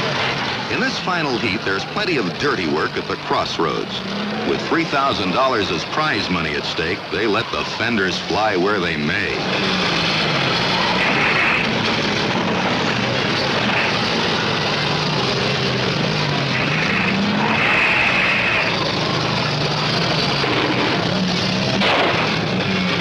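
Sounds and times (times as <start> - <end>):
many car engines revving: 0.0 - 23.0.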